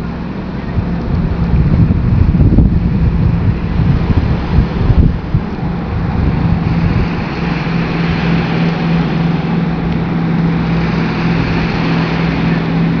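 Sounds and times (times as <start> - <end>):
diesel engine drone: 0.0 - 13.0
rush of spray and water: 0.0 - 13.0.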